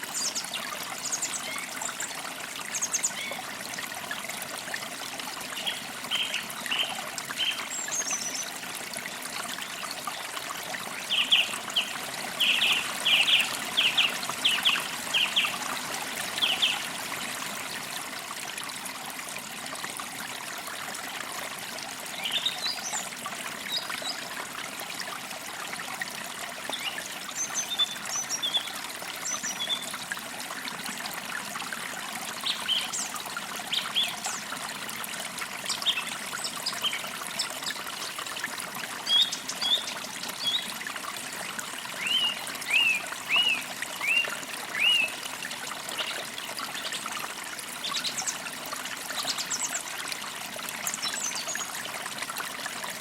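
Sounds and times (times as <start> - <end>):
creek trickling and babbling: 0.0 - 53.0.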